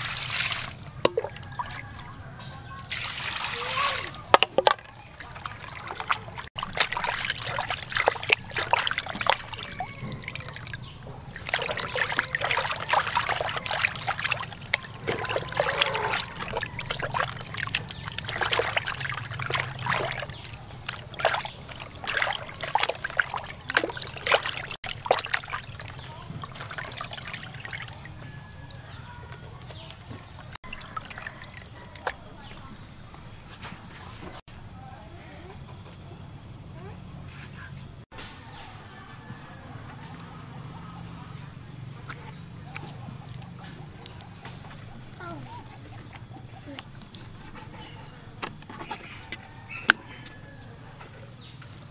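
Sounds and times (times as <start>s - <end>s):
water splashing and sloshing: 0.0s - 34.4s, 38.1s - 51.9s.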